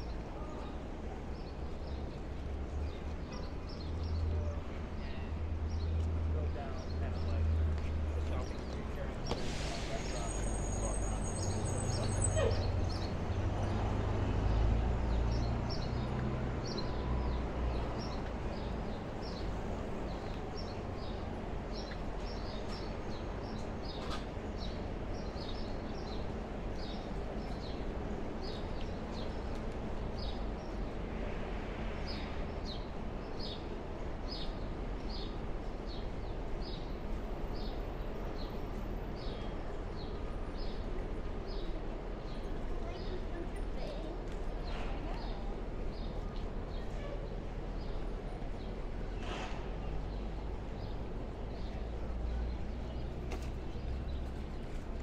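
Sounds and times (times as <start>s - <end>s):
low hum of city street: 0.0s - 55.0s.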